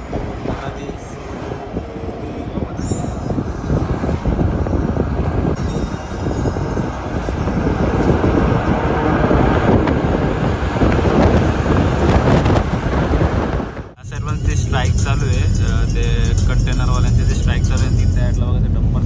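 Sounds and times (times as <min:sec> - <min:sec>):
bus engine and tyre rumble: 0:00.0 - 0:19.0.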